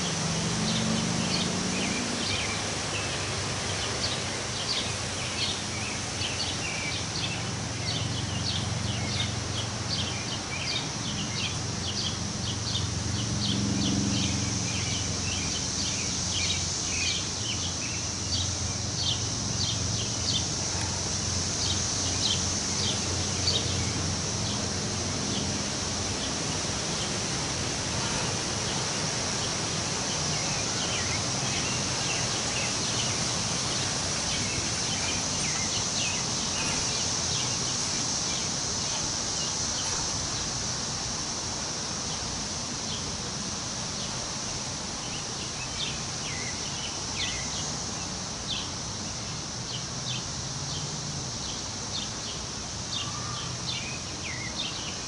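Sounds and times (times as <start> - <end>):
high insect drone: 0.0 - 55.0
wind rustling tree leaves: 0.0 - 55.0.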